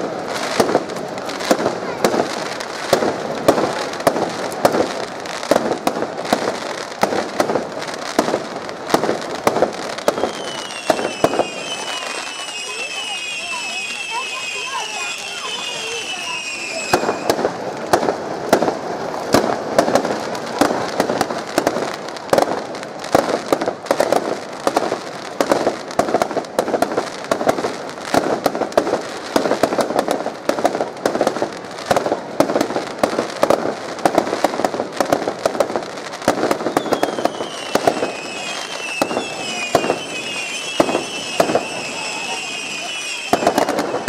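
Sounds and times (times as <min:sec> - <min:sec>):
fireworks whistles: 0:00.0 - 0:22.5, 0:23.1 - 0:44.0
fireworks bangs and crackles: 0:00.0 - 0:44.0.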